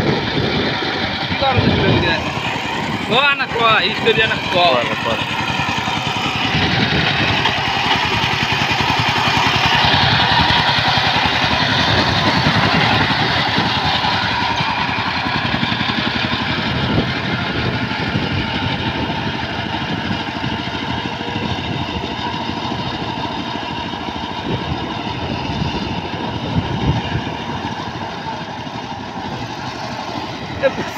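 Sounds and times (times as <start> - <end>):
diesel engine chugging: 0.0 - 30.9.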